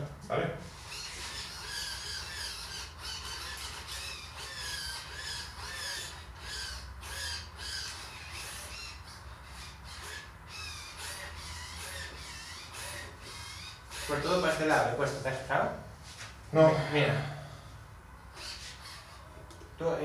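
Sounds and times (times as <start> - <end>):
servos whining chirps: 0.0 - 15.5, 18.3 - 20.0.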